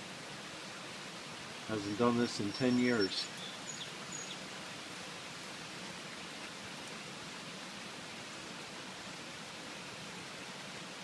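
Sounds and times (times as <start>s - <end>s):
hiss of water: 0.0s - 11.0s.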